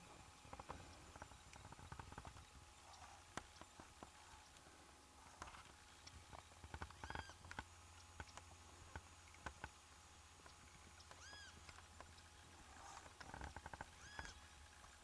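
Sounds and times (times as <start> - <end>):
faint animal calls: 0.1 - 8.0, 10.7 - 15.0
faint clicks: 0.4 - 9.8, 10.4 - 15.0.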